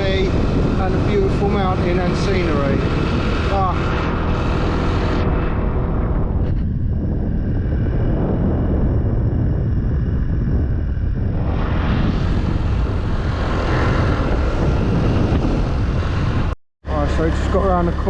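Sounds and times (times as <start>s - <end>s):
vehicle engine and road noise: 0.0s - 8.9s, 9.9s - 18.0s.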